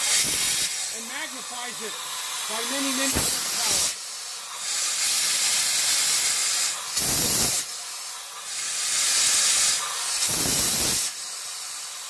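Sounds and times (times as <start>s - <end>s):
steam engine hissing: 0.0s - 12.0s.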